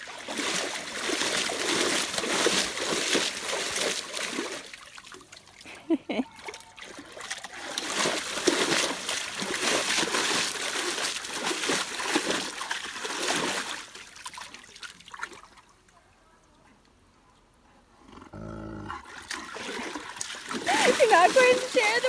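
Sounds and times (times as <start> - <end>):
wolf splashing in water tub: 0.0 - 5.8, 6.4 - 15.7, 19.0 - 22.0.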